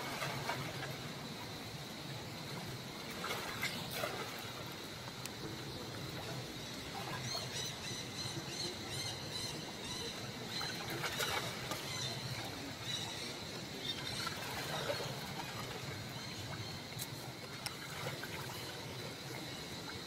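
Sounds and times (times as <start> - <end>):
water splashing and sloshing: 0.0 - 7.7, 10.3 - 20.0.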